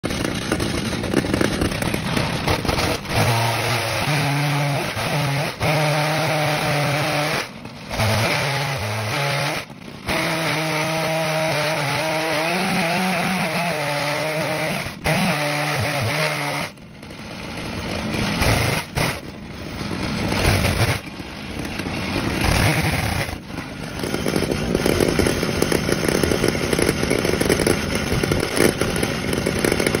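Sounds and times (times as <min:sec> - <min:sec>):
chainsaw cutting log: 0:00.0 - 0:30.0.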